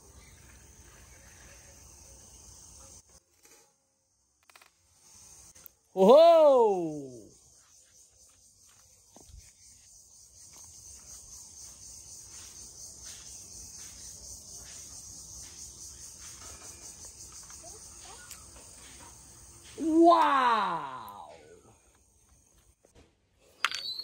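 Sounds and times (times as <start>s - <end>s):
insects trilling: 0.0s - 22.8s.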